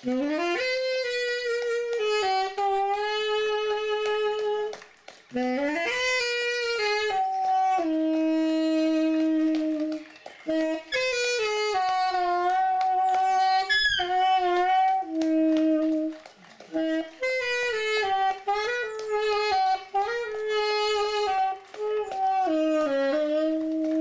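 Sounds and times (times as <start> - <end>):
saxophone slow melody: 0.0 - 24.0.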